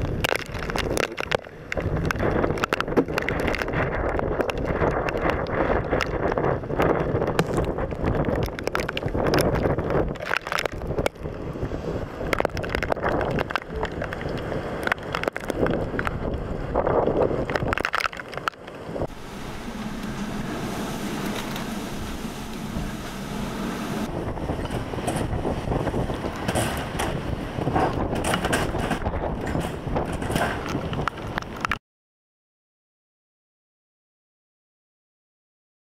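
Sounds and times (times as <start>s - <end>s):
wind buffeting microphone: 0.0s - 31.8s.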